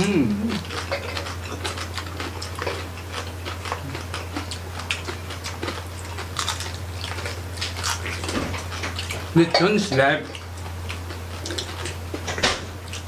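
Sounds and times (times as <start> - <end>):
chewing crispy pork skin: 0.0 - 13.0
steady low hum: 0.0 - 13.0.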